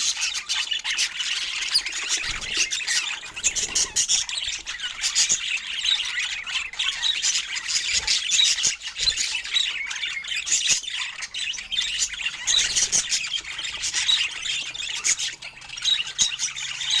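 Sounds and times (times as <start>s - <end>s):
budgerigars chattering and warbling: 0.0s - 17.0s.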